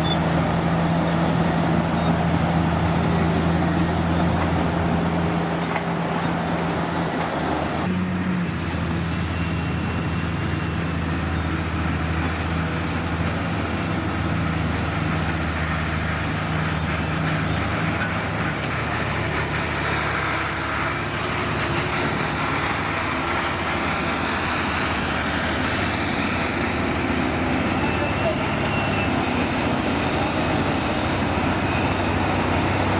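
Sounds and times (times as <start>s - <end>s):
heavy diesel engine running: 0.0s - 32.9s.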